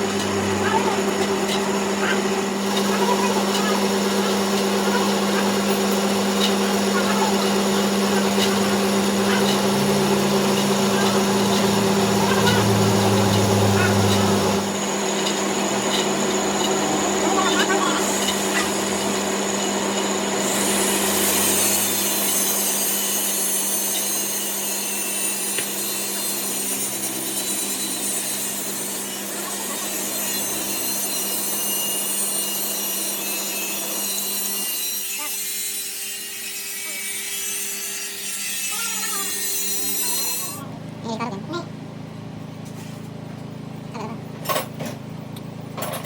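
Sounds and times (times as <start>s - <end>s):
rasping abrasive cutting noise: 0.0s - 40.6s.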